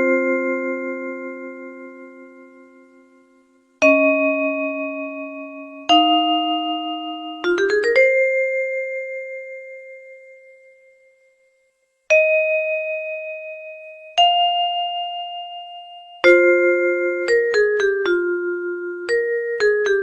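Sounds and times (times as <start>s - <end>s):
bell-like chime ringtone: 0.0s - 20.0s.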